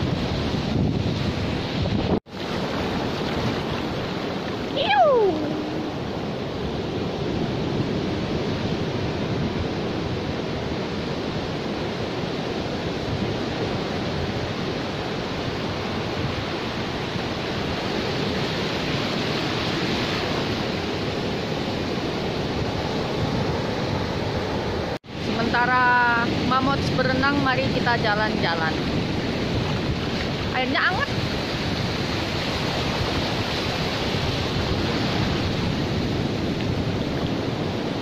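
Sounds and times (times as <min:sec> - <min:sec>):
ocean surf washing on beach: 0:00.0 - 0:38.0.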